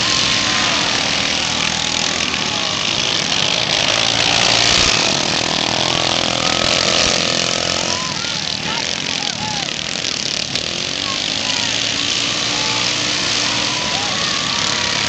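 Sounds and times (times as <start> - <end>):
racing lawn mower engines revving: 0.0 - 15.0.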